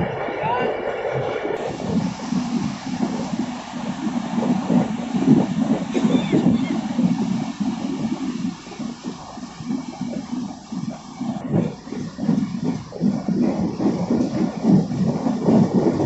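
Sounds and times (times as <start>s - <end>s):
train wheels rumbling and rattling: 1.0s - 16.0s.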